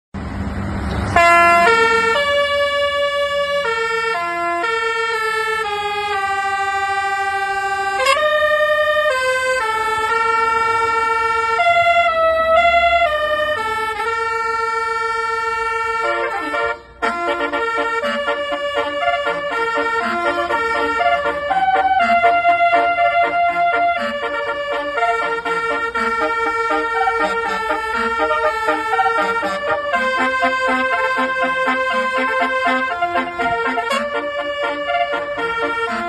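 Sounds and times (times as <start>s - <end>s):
multi-tone melodic horn: 1.2s - 36.0s.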